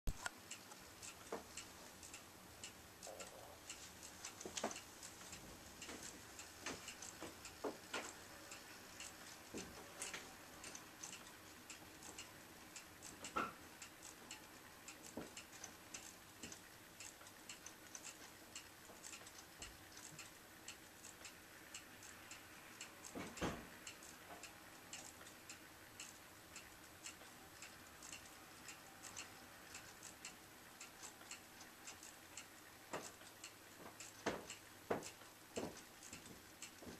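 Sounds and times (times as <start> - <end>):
wall clock ticking faintly: 0.1 - 36.9.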